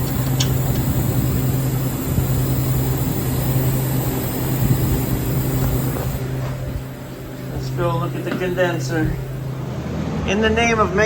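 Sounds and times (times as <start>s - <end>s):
refrigerant hissing: 0.0s - 9.8s
refrigeration unit humming: 0.0s - 11.0s.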